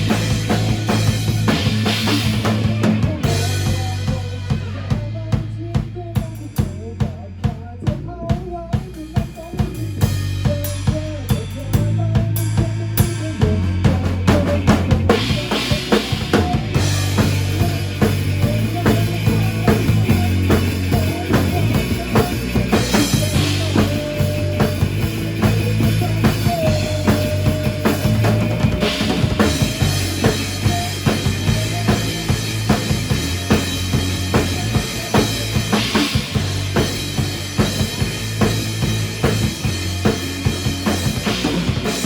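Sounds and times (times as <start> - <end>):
drum kit beat: 0.0 - 42.0
rock band music: 0.0 - 42.0.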